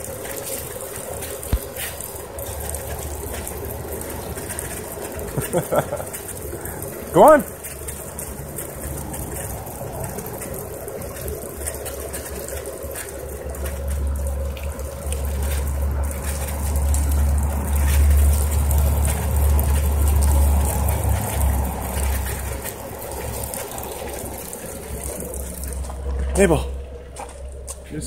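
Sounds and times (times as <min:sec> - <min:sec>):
aerator spraying water: 0:00.0 - 0:28.0
dog lapping at water: 0:00.0 - 0:28.0.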